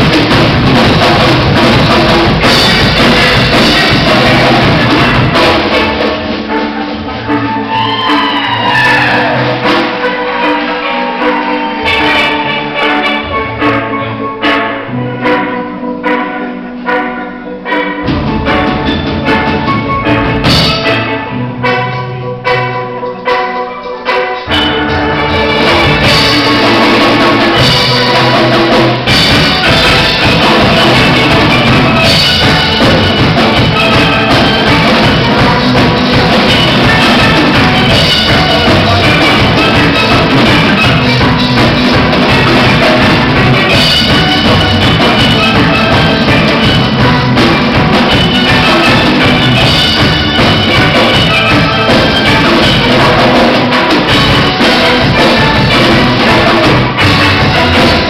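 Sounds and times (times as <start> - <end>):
drum kit beat: 0.0 - 58.0.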